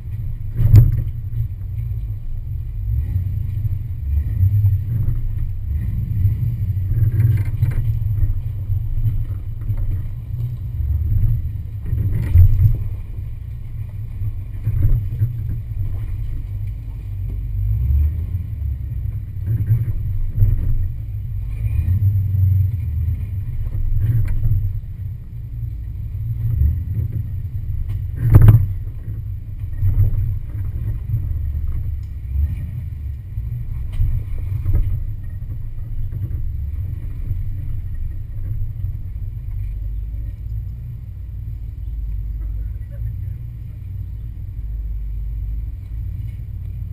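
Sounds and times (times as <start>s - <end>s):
engine rumbling unevenly: 0.0s - 46.9s.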